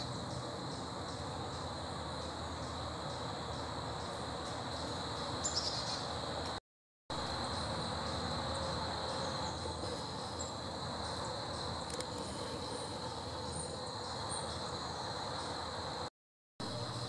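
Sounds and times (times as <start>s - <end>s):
high-pitched insect chorus trilling: 0.0s - 17.0s.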